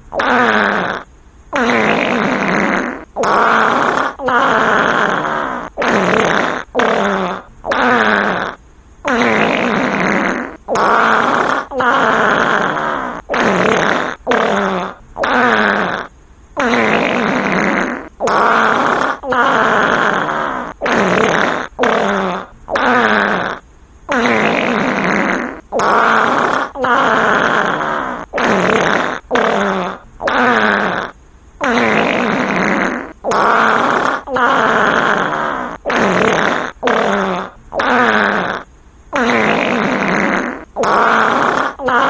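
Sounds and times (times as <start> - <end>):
farts: 0.1 - 42.0.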